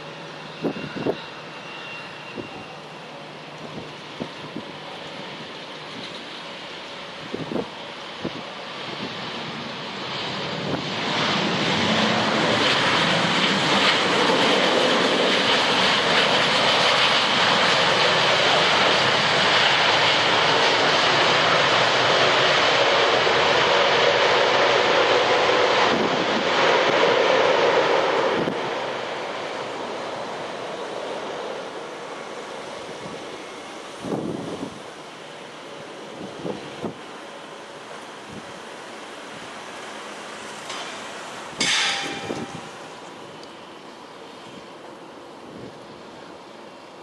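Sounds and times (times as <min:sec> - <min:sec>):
jet engines in reverse thrust: 0:00.0 - 0:47.0.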